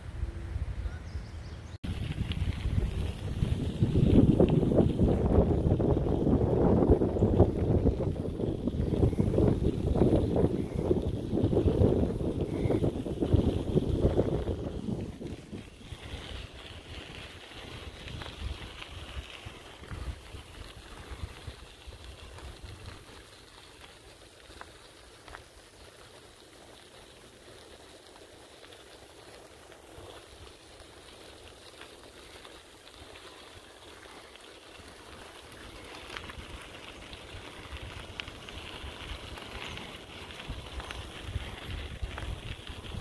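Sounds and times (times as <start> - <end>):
bicycle tyres crunching gravel: 0.2 - 43.0.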